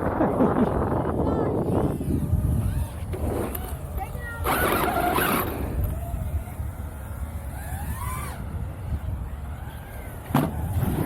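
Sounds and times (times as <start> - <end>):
faint rising and falling whines: 0.0 - 11.0
wind rumbling on microphone: 0.0 - 11.0.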